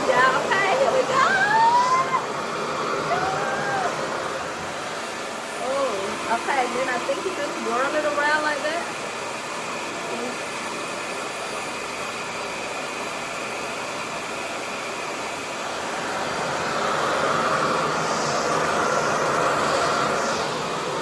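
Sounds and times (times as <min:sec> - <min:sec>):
hair dryer suction rushing: 0:00.0 - 0:21.0.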